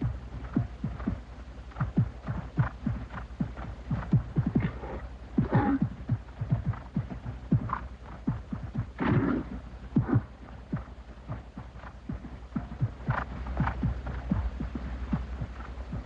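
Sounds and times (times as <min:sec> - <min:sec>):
horse hooves thudding on soft ground: 0:00.0 - 0:16.0
steady low hum: 0:00.0 - 0:16.0.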